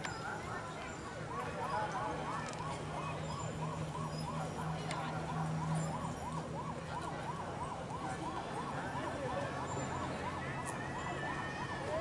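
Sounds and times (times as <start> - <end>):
siren yelping: 0.1 - 12.0.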